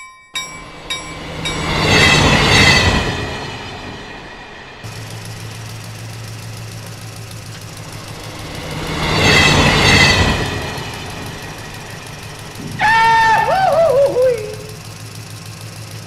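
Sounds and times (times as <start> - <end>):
train rumble with squealing: 0.4 - 16.0
low engine hum: 0.5 - 16.0.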